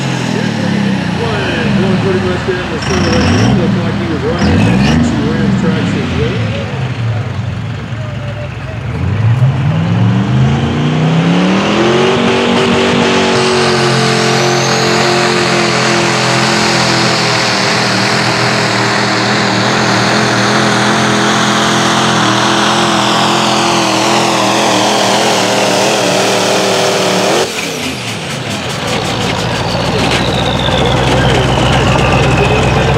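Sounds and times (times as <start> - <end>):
diesel truck engine at full throttle: 0.0 - 32.9.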